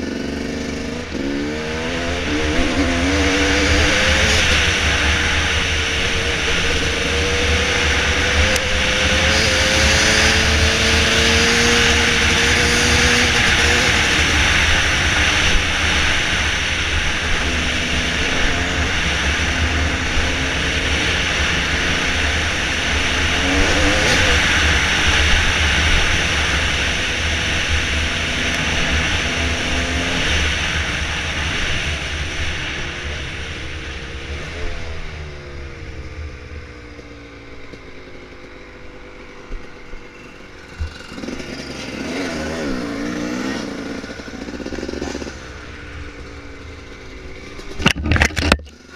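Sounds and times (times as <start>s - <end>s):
dirt bike engine revving: 0.0s - 35.8s, 39.6s - 48.9s.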